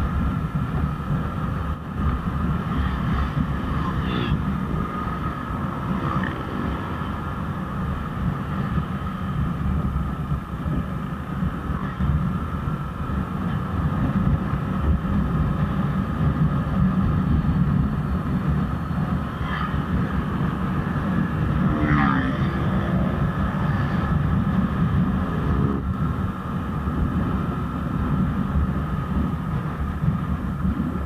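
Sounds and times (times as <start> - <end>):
road rumble: 0.0 - 31.0.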